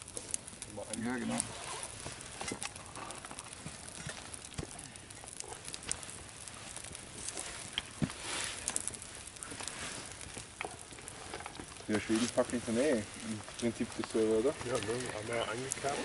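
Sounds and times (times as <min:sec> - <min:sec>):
fire crackling and popping: 0:00.0 - 0:16.0
low rush of flame: 0:00.0 - 0:16.0.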